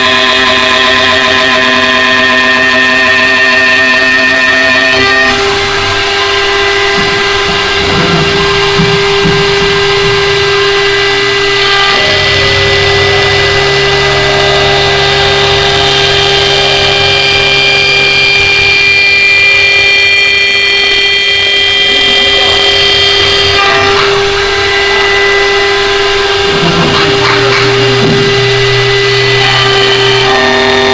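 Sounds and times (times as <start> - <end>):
wood-turning lathe motor whine: 0.0 - 30.9.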